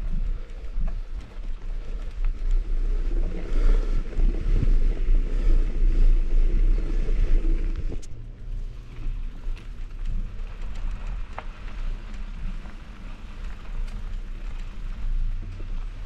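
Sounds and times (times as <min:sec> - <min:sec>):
bike rolling trail noise: 0:00.0 - 0:16.0
wind buffeting microphone: 0:00.0 - 0:16.0.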